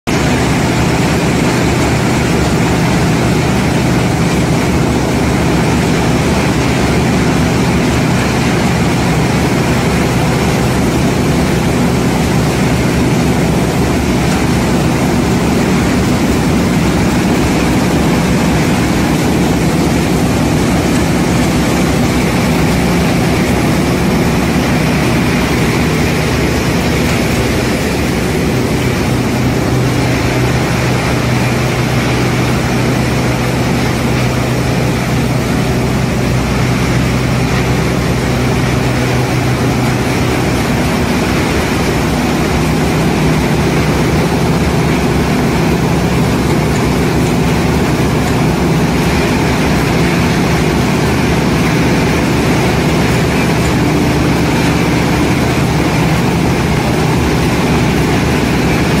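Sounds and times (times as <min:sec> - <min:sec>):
constant low hum: 0:00.1 - 0:59.0
machinery mechanical drone: 0:00.1 - 0:59.0.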